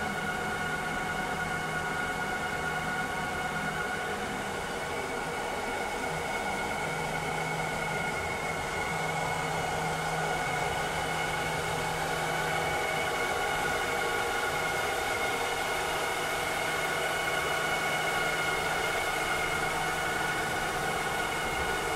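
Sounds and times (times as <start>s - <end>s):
robotic vacuum cleaner running: 2.0s - 21.9s.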